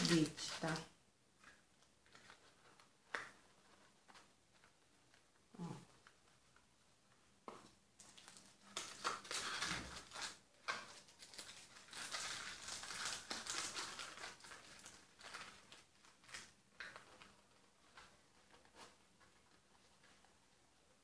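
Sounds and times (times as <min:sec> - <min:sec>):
paper crinkling: 0:00.0 - 0:21.0.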